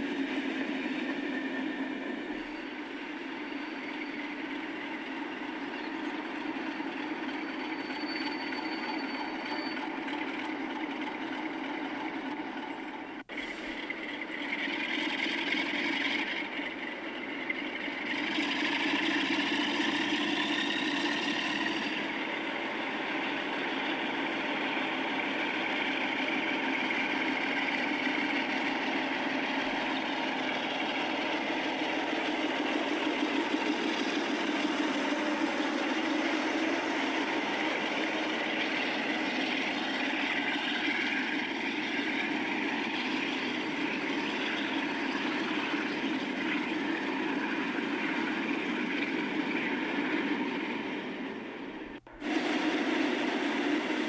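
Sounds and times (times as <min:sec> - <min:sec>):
diesel locomotive engine idling: 0:00.0 - 0:54.0
high engine whine: 0:00.0 - 0:54.0.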